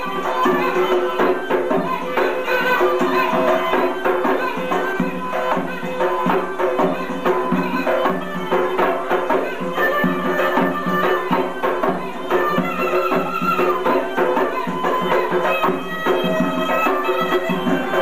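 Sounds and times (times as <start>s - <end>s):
hand drum beat: 0.0s - 18.0s
reed pipe playing dance tune: 0.0s - 18.0s.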